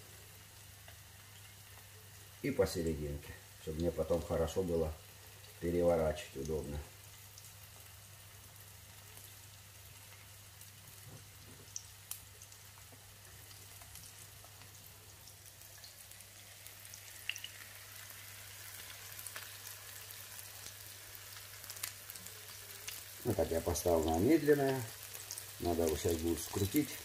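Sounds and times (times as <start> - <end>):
patties sizzling in oil: 0.0 - 27.0.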